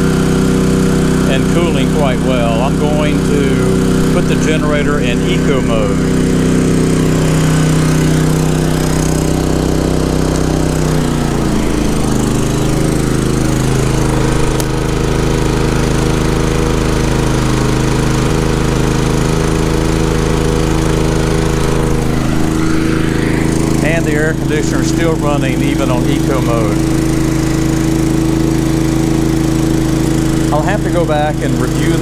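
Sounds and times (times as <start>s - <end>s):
generator engine running: 0.0s - 32.0s.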